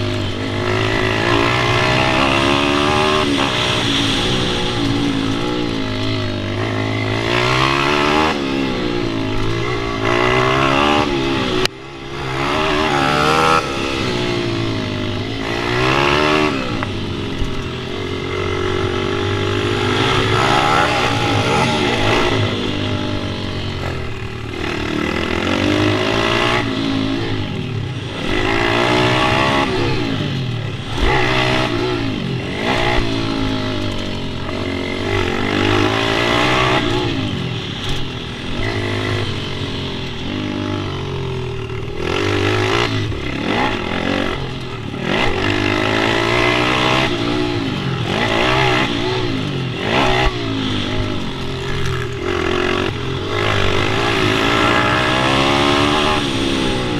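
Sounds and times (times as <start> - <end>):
pit bike engines revving: 0.0 - 56.9.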